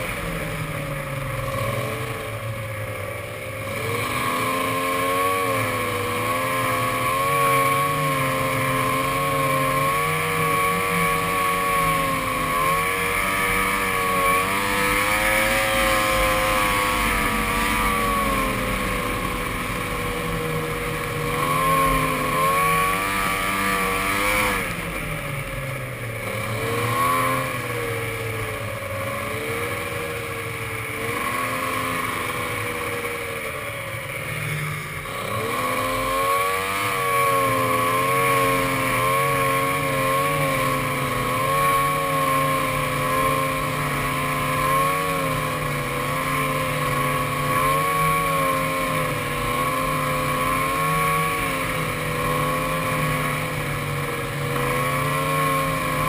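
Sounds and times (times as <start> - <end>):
snowmobile engine running: 0.0 - 56.0
steady rushing noise: 0.0 - 56.0.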